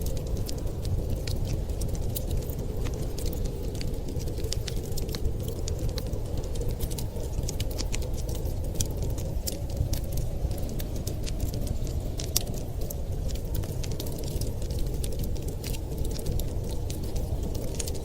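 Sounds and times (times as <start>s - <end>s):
storm wind rushing: 0.0s - 18.0s
wood fire crackling: 0.0s - 18.0s.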